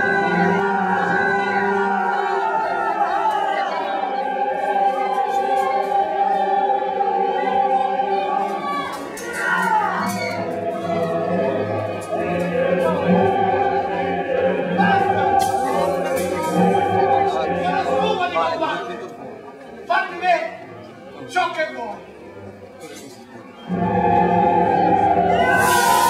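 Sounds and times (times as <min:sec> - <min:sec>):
choir singing: 0:00.0 - 0:19.4, 0:23.6 - 0:26.0.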